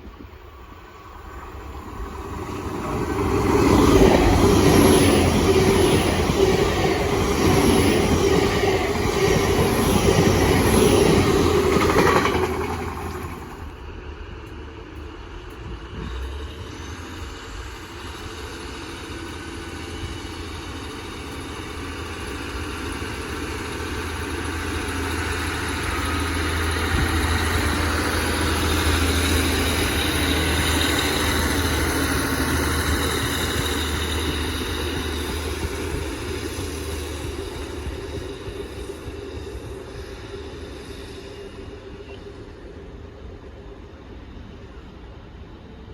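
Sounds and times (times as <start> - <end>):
train engine hum: 0.0 - 45.9
train passing: 0.0 - 45.9.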